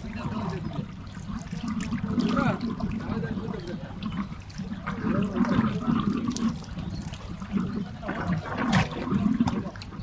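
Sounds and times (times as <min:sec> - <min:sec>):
water sloshing and splashing: 0:00.0 - 0:10.0.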